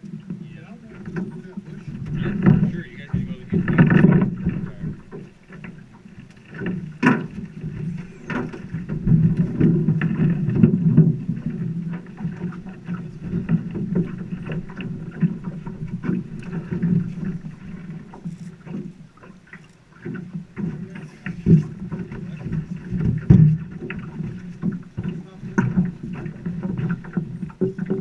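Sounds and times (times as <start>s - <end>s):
water lapping against boat: 0.0s - 28.0s.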